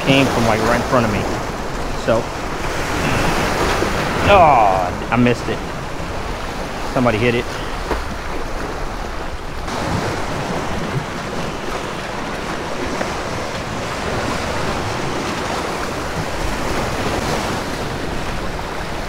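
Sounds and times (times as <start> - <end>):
surf breaking against rocks: 0.0 - 19.0.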